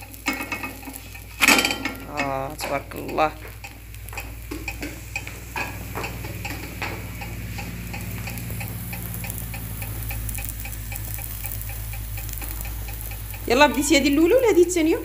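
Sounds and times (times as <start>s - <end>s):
fast even ticking: 0.0s - 15.0s
flatbread cooking on hot pan: 0.0s - 15.0s.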